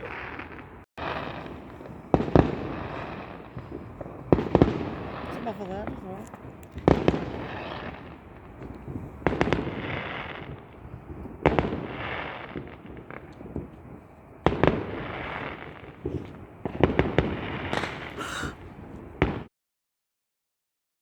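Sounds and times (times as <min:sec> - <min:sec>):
fireworks bangs and crackle: 0:00.0 - 0:19.5.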